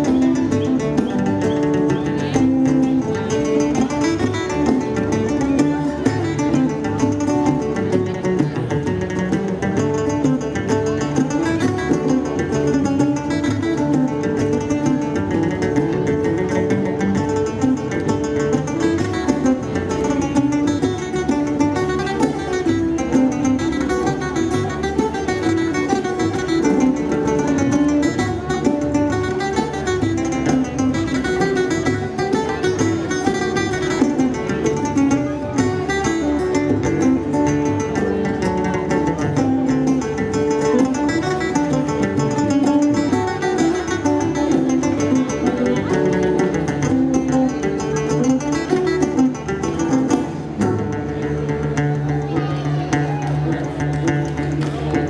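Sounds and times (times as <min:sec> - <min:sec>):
frame drum: 0:00.0 - 0:52.4
acoustic guitar strumming: 0:00.0 - 0:55.0
banjo: 0:00.0 - 0:55.0.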